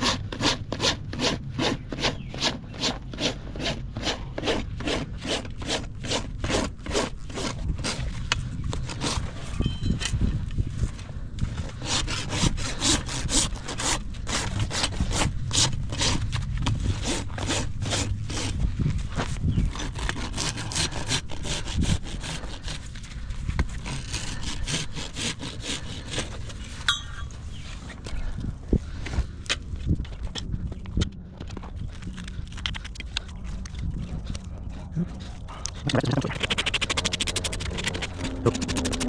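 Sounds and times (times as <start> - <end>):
rasp filing a hoof: 0.0 - 10.4, 11.4 - 27.8, 32.7 - 39.0.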